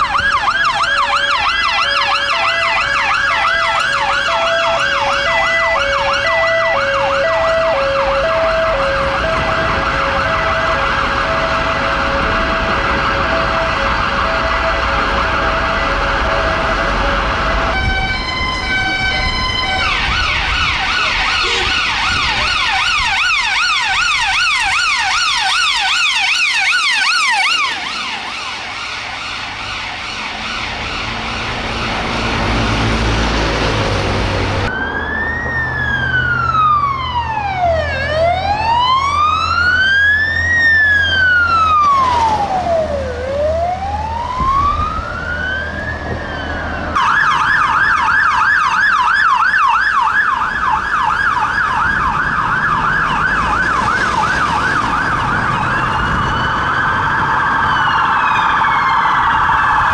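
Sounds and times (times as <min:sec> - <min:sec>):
siren fast yelp: 0:00.0 - 0:32.8, 0:34.7 - 0:59.9
police siren stepped tone: 0:00.0 - 0:33.2, 0:34.6 - 0:59.9
slow wailing siren: 0:00.0 - 0:59.9
traffic and engine noise: 0:00.0 - 0:59.9.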